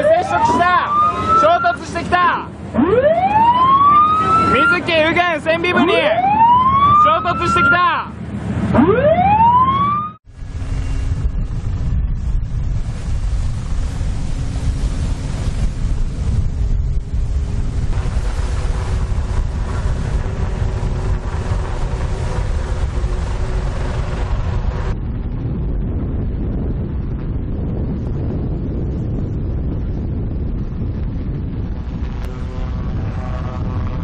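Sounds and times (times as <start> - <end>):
low rumble: 0.0 - 34.0
wind buffeting microphone: 0.0 - 34.0.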